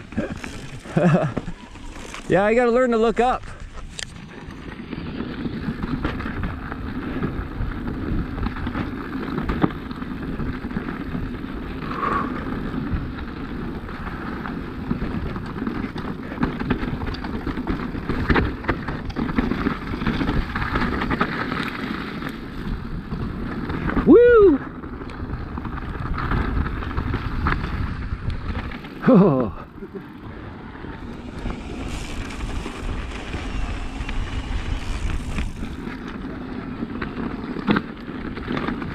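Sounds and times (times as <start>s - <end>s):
tyres and frame rattling over rock: 0.0s - 24.1s, 25.2s - 38.9s.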